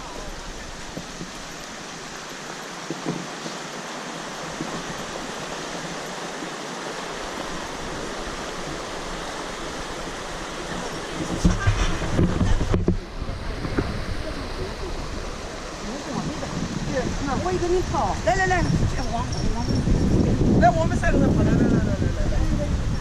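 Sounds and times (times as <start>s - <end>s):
steady rushing noise: 0.0s - 23.0s
wind buffeting microphone: 0.0s - 23.0s.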